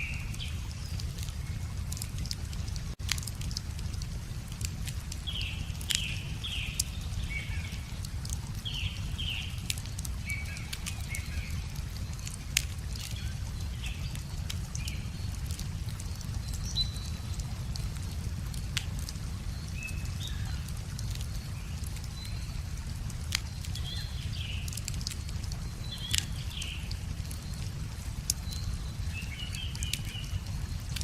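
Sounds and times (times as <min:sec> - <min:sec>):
songbird chirping: 0:00.0 - 0:31.0
wood fire crackling and popping: 0:00.0 - 0:31.0.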